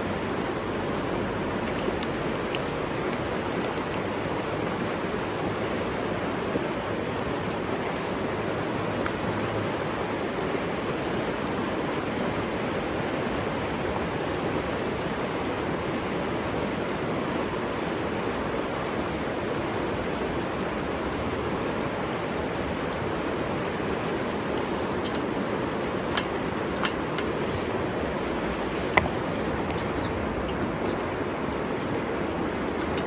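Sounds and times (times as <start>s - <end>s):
river rushing: 0.0s - 33.0s.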